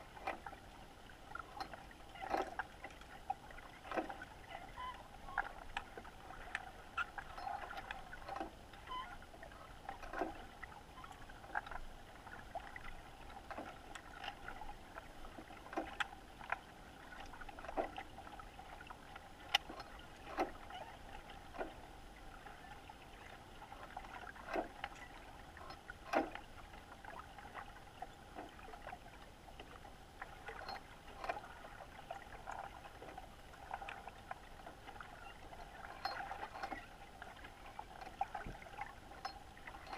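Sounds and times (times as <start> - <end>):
underwater clicks and ticks: 0.0 - 21.9, 23.3 - 39.9.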